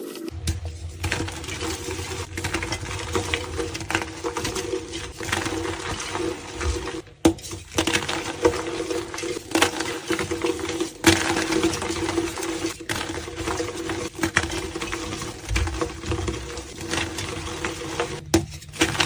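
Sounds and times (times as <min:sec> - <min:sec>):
chalk blocks crunching: 0:00.3 - 0:19.0.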